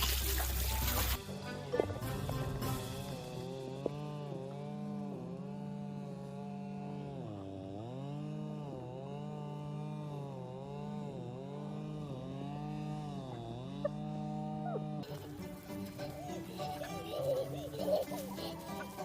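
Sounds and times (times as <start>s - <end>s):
small motor running: 0.0s - 19.0s.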